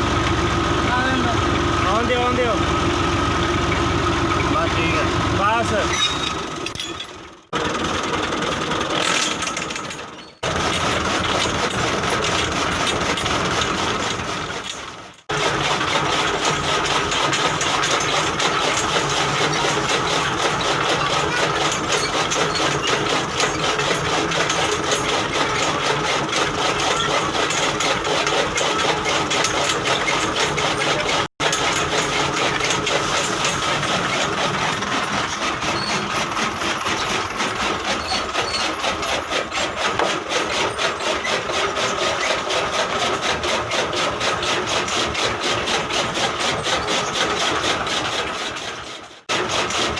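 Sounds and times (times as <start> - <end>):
tractor diesel engine running: 0.0 - 45.2
chaff cutter running: 0.0 - 49.9.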